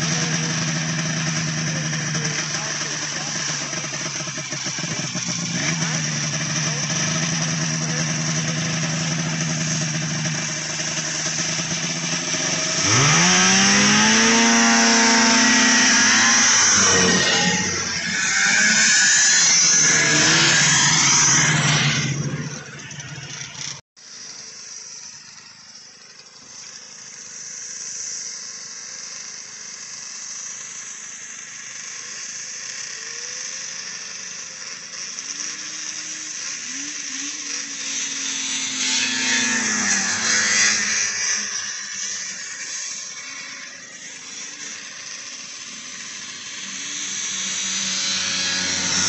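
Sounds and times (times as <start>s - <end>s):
snowmobiles racing past: 0.0s - 25.0s, 31.7s - 49.0s
distant engines revving: 0.0s - 49.0s.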